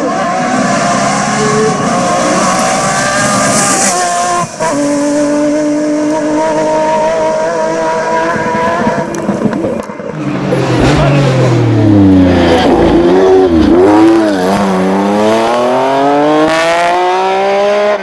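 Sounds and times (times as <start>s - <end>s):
car engine running hard: 0.0s - 18.0s.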